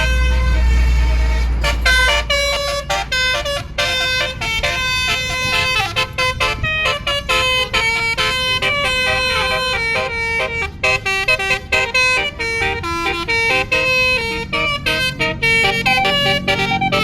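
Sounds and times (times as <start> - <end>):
bus air horn melody: 0.0 - 17.0.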